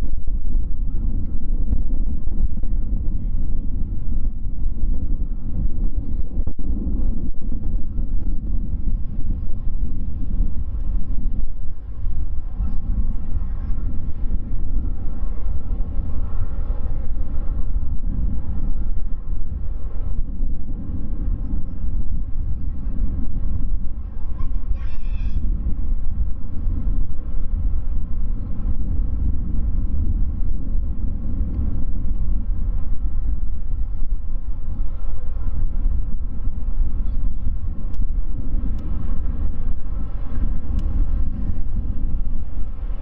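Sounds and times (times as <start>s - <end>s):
jet engines rumbling with whine: 0.0s - 43.0s.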